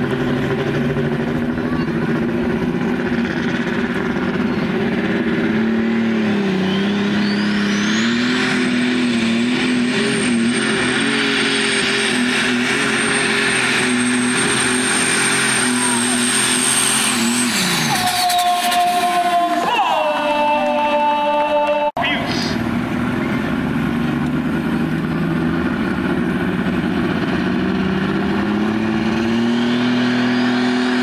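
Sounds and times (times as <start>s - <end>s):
tractor engine at full power: 0.0s - 31.0s.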